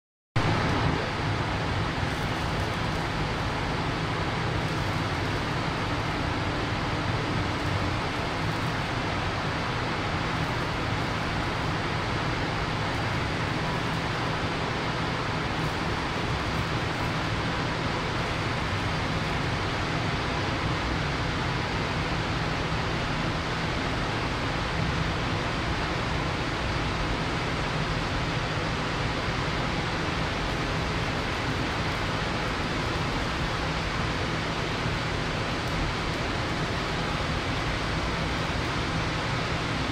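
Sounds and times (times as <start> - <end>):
low machinery hum: 0.4 - 39.9
steady rushing noise: 0.4 - 39.9.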